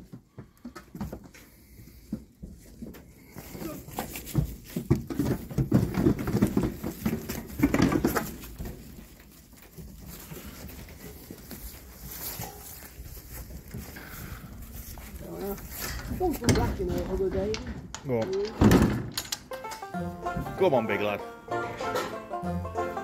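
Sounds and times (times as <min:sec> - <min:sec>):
hooves clattering on metal ramp: 0:00.0 - 0:20.8.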